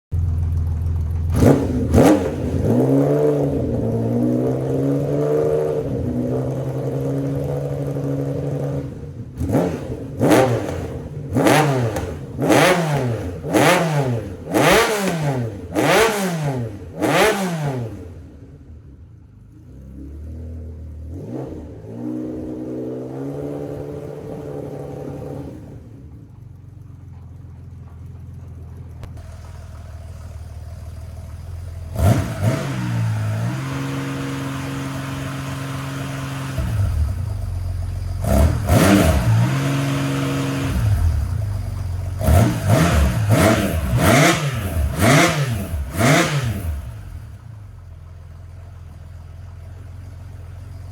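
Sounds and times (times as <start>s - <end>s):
motorcycle engine revving: 0.1s - 50.9s.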